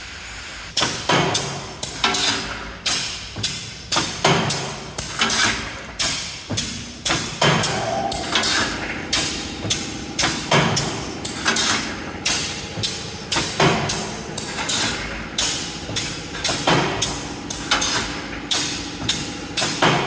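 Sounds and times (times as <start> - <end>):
welding machine clanking: 0.8 - 20.0.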